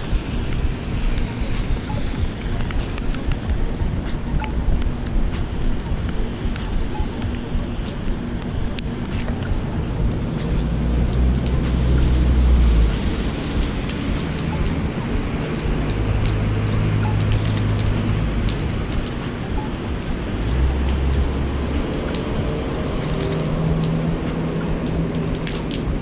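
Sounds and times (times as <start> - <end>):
low hum changing pitch: 0.0 - 25.4
drops ticking: 0.0 - 26.0
rain on wet pavement: 0.0 - 26.0.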